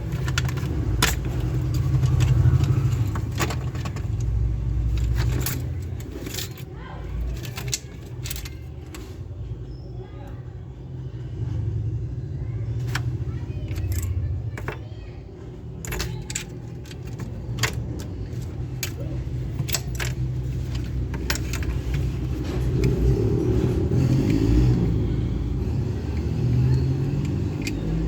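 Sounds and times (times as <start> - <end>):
small plastic parts clicking: 0.0 - 9.2, 12.8 - 14.9, 15.6 - 28.0.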